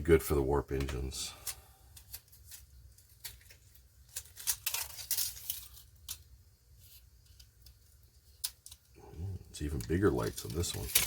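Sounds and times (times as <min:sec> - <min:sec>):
faint low hum: 0:00.0 - 0:11.0
crackling plastic strip handling: 0:00.8 - 0:11.0.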